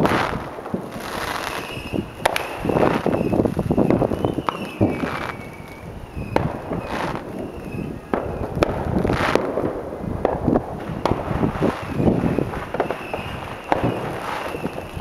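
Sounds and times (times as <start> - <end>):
distant firework bangs: 0.0 - 15.0
hissing crackle of fireworks: 0.0 - 15.0.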